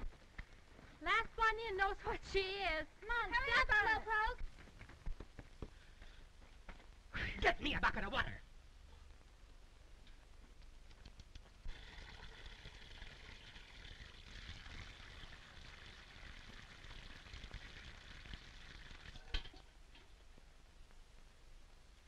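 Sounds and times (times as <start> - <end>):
film soundtrack hiss and crackle: 0.0 - 22.0.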